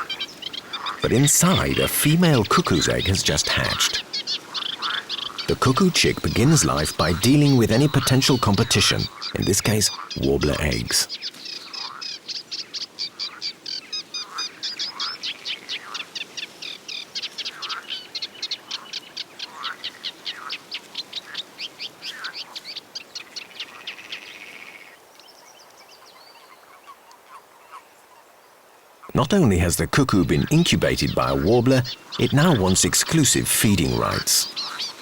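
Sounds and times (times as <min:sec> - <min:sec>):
songbirds chirping: 0:00.0 - 0:35.0.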